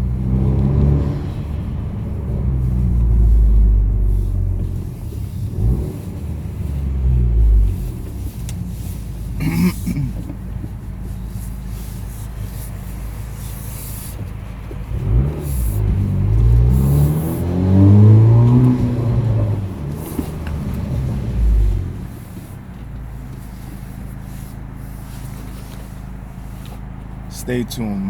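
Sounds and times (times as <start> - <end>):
car engine rumbling and revving: 0.0 - 28.0.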